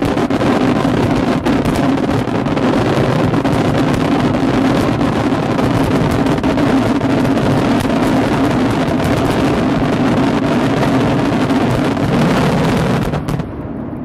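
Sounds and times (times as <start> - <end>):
fireworks bangs rumbling: 0.0 - 14.0
fireworks crackle: 0.0 - 14.0.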